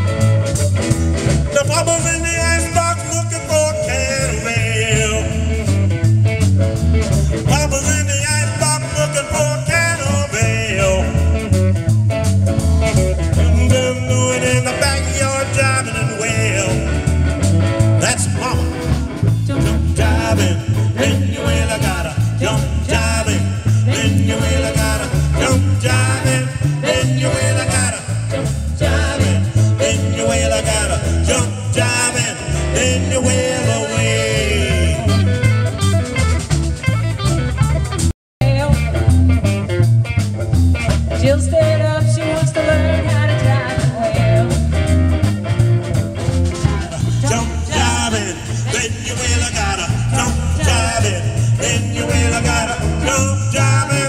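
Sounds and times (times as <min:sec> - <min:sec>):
live band through speakers: 0:00.0 - 0:54.0.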